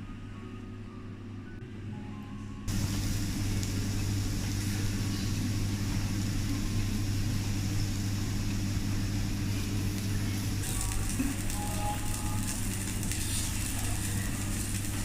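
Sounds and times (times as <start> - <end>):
extractor hood hum: 2.7 - 15.0
griddle sizzling: 2.7 - 15.0.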